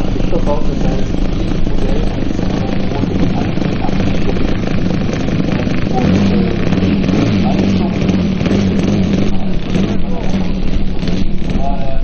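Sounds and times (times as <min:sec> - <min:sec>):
model plane propeller engine: 0:00.0 - 0:12.0.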